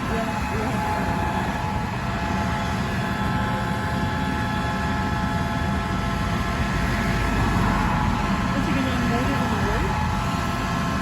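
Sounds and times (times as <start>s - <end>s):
combine harvester drone: 0.0s - 11.0s.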